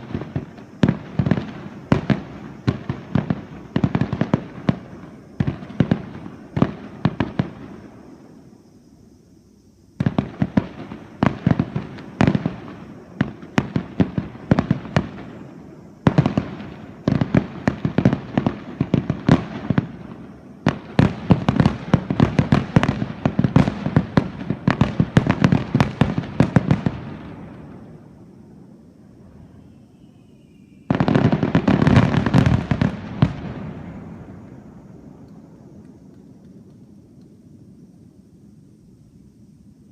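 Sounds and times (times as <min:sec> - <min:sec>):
fireworks bursting: 0:00.0 - 0:08.8, 0:10.0 - 0:38.1.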